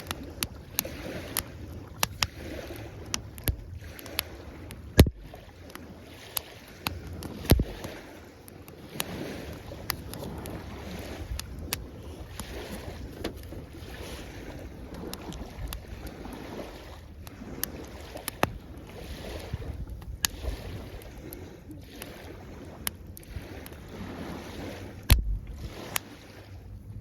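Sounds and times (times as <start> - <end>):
campfire crackling and popping: 0.0 - 23.9
small waves washing on shore: 0.0 - 27.0.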